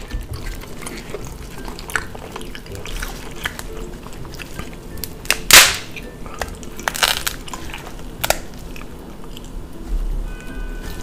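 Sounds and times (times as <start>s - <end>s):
crab shell cracking: 0.0s - 8.9s
shell crunching and snapping: 0.0s - 8.9s.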